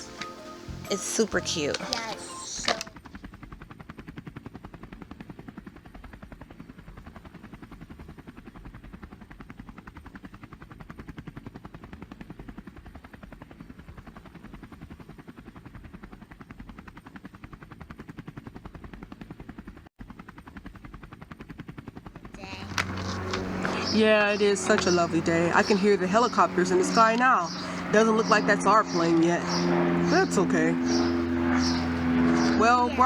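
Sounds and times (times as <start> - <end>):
helicopter engine noise: 0.0 - 33.0
helicopter rotor blades chopping: 0.0 - 33.0.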